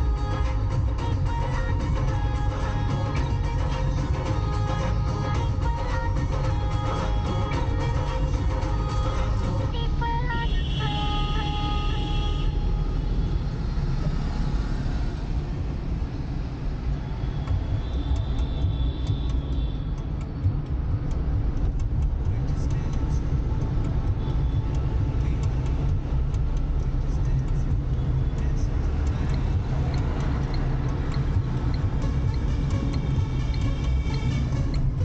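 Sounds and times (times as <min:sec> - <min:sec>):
car driving rumble: 0:00.0 - 0:35.0.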